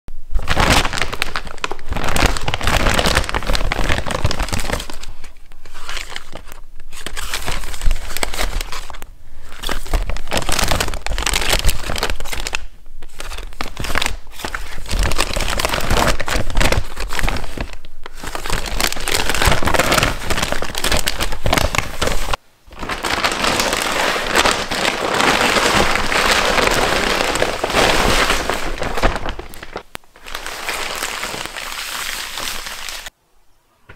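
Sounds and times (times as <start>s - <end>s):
plastic wrappers crinkling: 0.4s - 33.1s.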